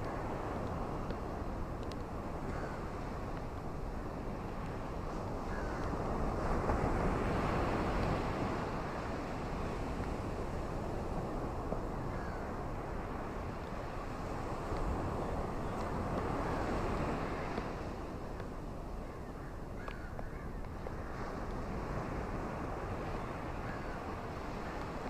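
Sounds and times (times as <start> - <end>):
ocean waves washing onto beach: 0.0 - 25.0.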